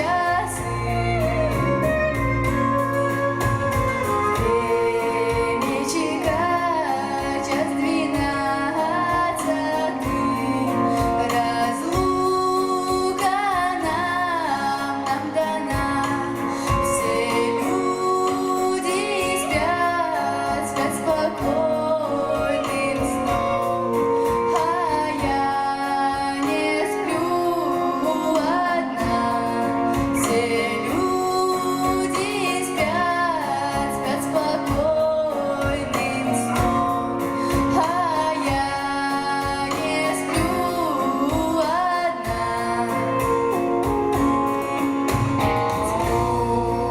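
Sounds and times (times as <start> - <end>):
young woman singing folk song: 0.0 - 2.6, 4.0 - 44.4, 45.2 - 46.9
instrumental accompaniment: 0.0 - 46.9.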